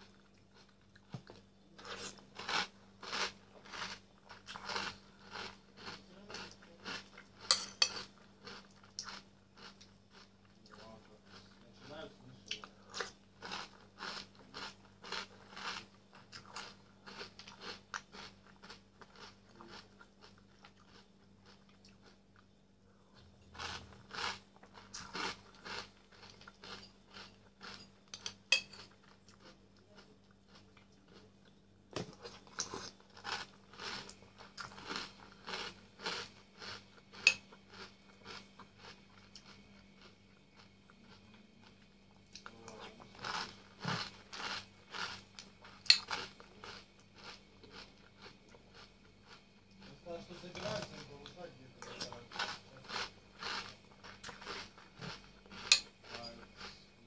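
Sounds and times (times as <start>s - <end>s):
chewing crunchy cereal: 0.0s - 57.0s.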